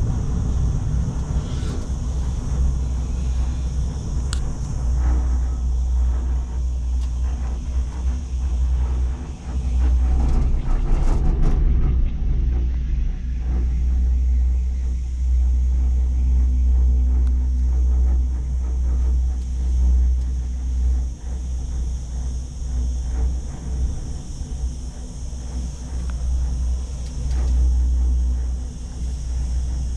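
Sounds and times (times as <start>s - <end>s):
gondola cabin deep rumble: 0.0s - 29.9s.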